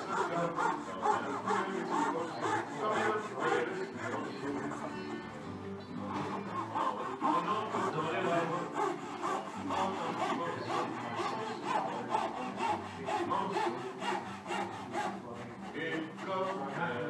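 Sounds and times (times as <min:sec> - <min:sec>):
fret saw cutting wood: 0:00.0 - 0:17.0.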